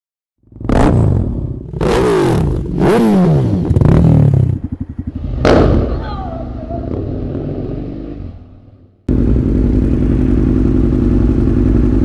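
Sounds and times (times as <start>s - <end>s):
motorcycle engine revving and idling: 0.4s - 12.0s.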